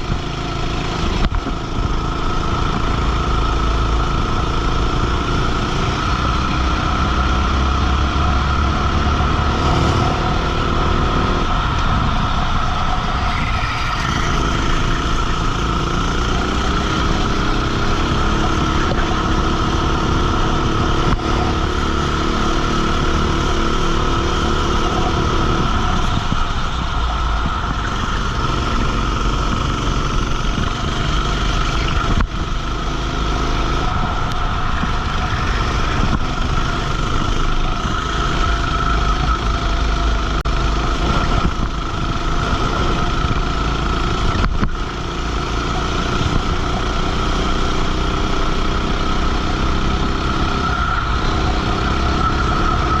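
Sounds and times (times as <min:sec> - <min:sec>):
kart engine running hard: 0:00.0 - 0:53.0.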